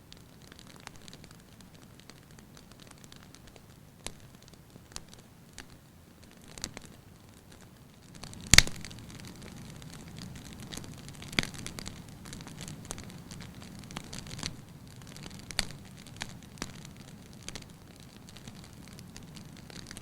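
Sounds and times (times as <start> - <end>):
faint steady hiss: 0.0 - 20.0
wood fire crackling and popping: 0.0 - 20.0.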